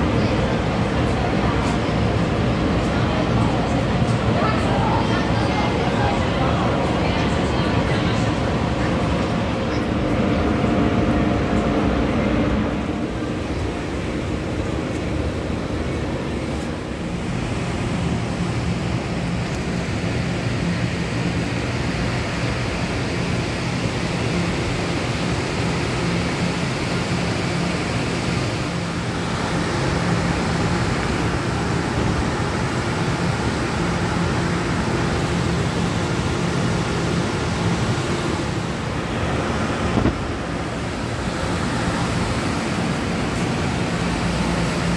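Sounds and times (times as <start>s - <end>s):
continuous rushing noise: 0.0s - 44.9s.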